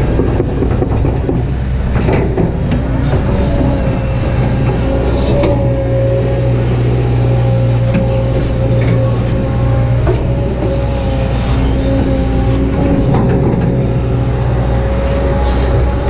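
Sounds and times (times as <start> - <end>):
diesel engine drone: 0.0 - 16.0
hydraulic whine: 0.0 - 16.0.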